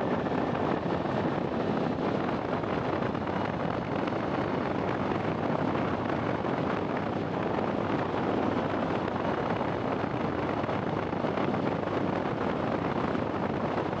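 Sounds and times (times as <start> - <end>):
motorcycle road noise: 0.0 - 14.0
wind rush: 0.0 - 14.0.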